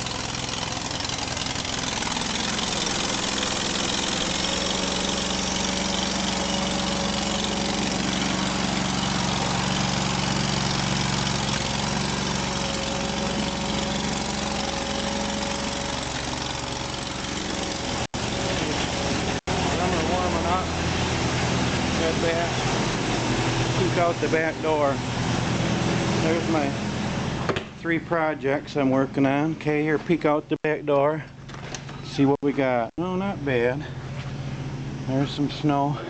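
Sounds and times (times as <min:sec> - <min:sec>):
tractor engine idling: 0:00.0 - 0:30.4.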